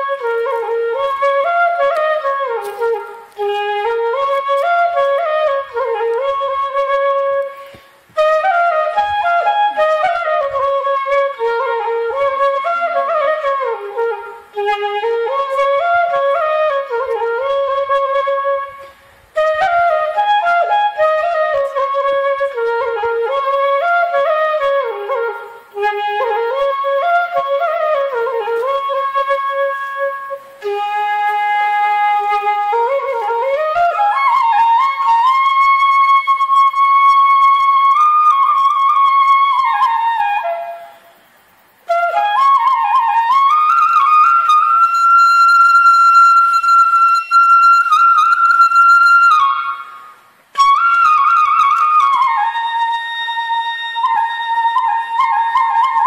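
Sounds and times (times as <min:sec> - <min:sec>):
solo flute melody: 0:00.0 - 0:56.0.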